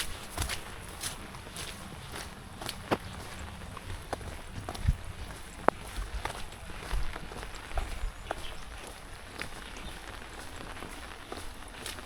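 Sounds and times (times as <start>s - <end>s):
footsteps of person walking: 0.0s - 12.0s.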